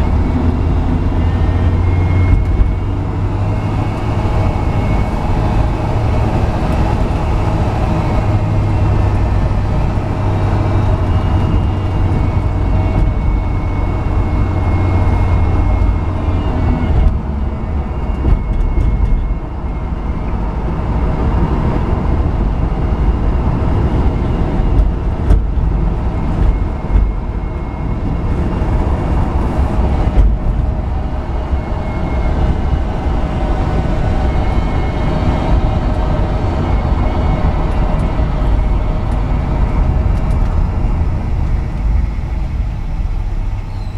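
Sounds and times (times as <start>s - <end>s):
road and wind noise: 0.0s - 43.9s
truck engine running: 0.0s - 43.9s.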